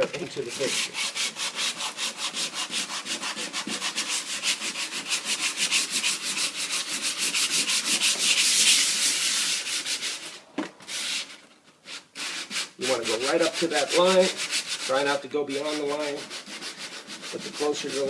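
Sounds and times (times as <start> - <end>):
sandpaper sanding by hand: 0.4 - 18.0.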